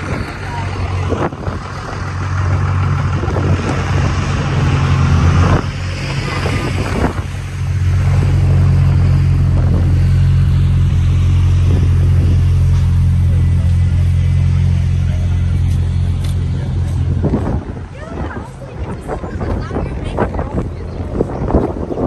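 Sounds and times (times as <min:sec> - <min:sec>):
heavy vehicle engine drone: 0:00.0 - 0:22.0.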